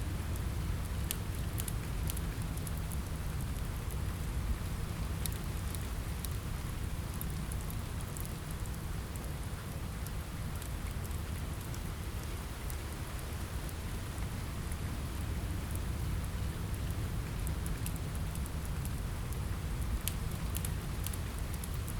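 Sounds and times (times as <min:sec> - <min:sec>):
rain on a window: 0:00.0 - 0:21.9
wood fire crackling: 0:00.1 - 0:21.9.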